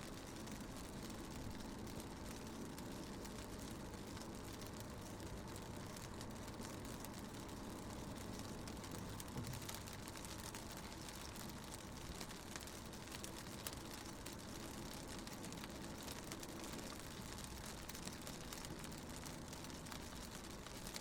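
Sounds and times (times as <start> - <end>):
low rumble of car driving: 0.0 - 21.0
rain pattering on car window: 0.0 - 21.0.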